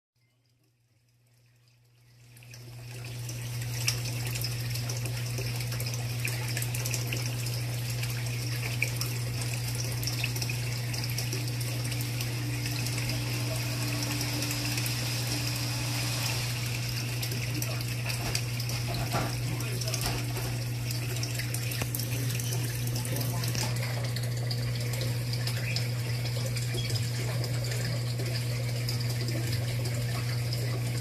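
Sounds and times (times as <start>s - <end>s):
water circulating in a tank: 0.2s - 31.0s
pump humming: 0.3s - 31.0s.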